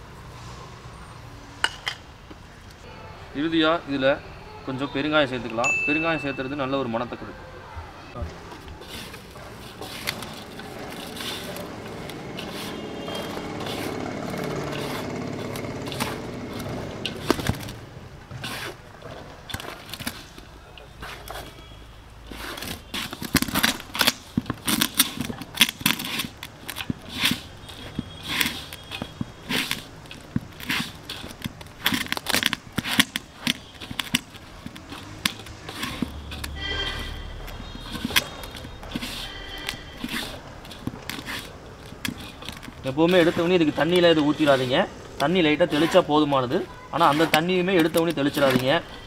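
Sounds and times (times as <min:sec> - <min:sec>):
hand mixing flour in a metal pot: 0:08.6 - 0:21.7, 0:22.3 - 0:49.0.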